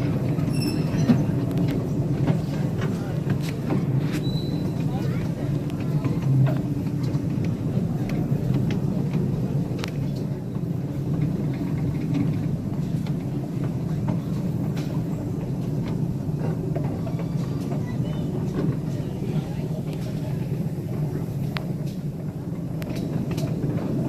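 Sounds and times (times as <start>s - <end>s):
small train rumbling on track: 0.0s - 24.0s
wheels clicking on rails: 0.0s - 24.0s.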